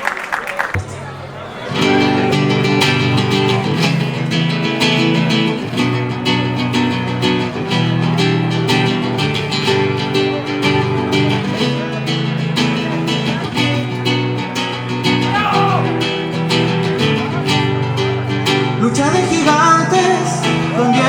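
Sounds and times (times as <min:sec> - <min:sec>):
acoustic guitar strumming chords: 0:00.8 - 0:21.0.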